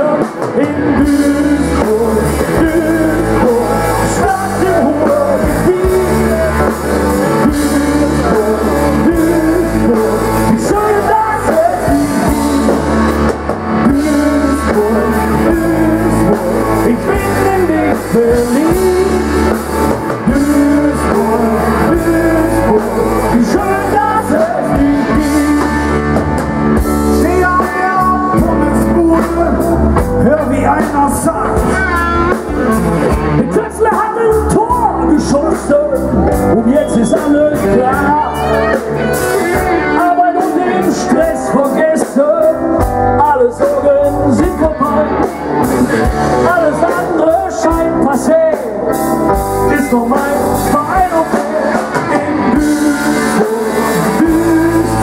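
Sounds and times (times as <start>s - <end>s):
man singing: 0.0s - 55.0s
rock band playing: 0.0s - 55.0s.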